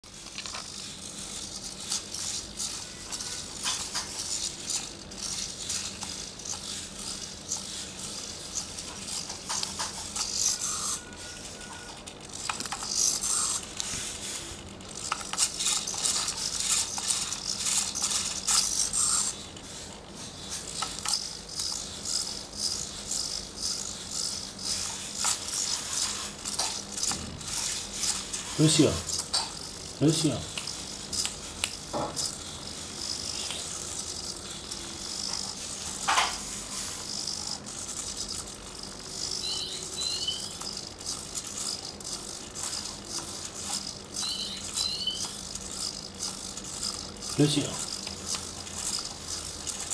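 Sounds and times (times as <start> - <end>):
servo motors whirring: 0.0 - 49.9.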